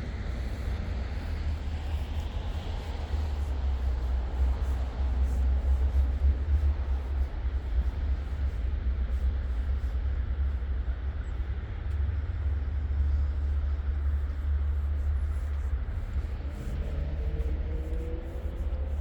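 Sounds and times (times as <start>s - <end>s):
city street rumble: 0.0s - 19.0s.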